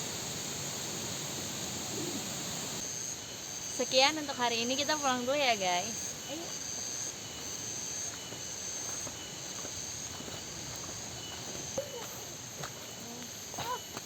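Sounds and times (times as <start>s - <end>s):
insects trilling: 0.0s - 14.0s
steady background hiss: 0.0s - 14.0s.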